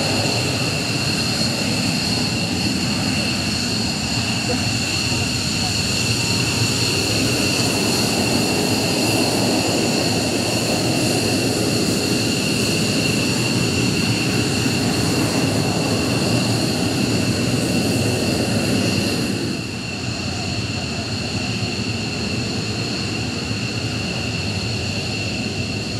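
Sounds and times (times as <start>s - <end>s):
jet engines whining: 0.0s - 25.9s.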